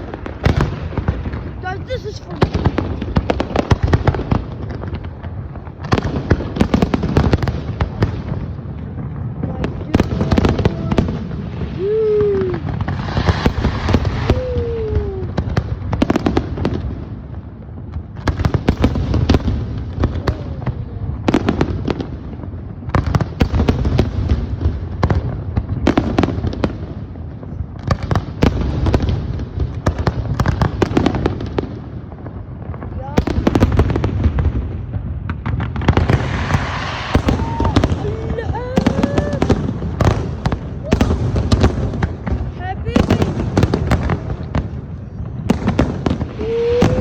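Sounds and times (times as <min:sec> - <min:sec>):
aerial fireworks banging and crackling: 0:00.0 - 0:47.0.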